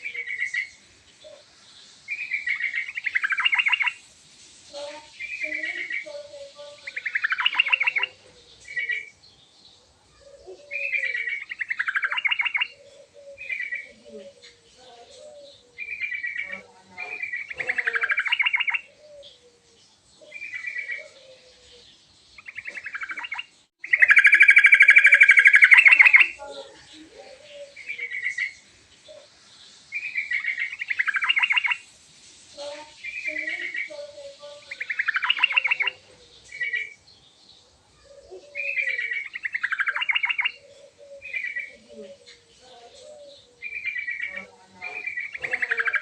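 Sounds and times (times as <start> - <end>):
bird singing rapid chattering phrases: 0.0 - 4.0, 4.7 - 9.8, 10.4 - 46.0.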